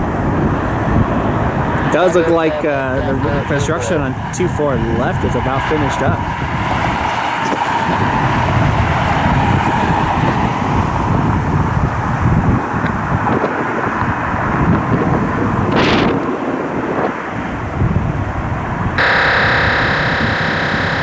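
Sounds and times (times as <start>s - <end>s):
jet airliner engines: 0.0s - 14.6s, 16.3s - 21.0s
wind buffeting microphone: 0.0s - 21.0s.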